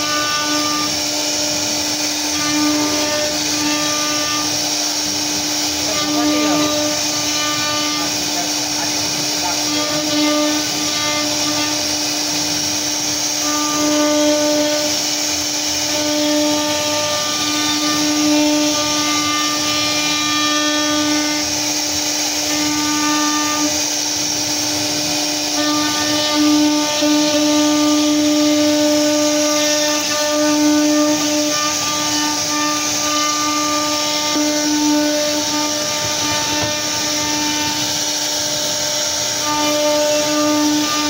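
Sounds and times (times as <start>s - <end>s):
bit cutting wood hiss: 0.0s - 41.0s
router spindle whine: 0.0s - 41.0s.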